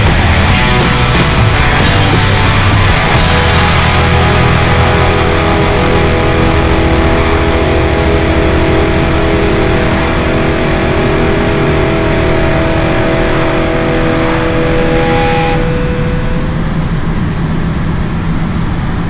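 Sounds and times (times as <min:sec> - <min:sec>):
rock music with electric guitar: 0:00.0 - 0:17.5
truck engine running: 0:00.0 - 0:19.0.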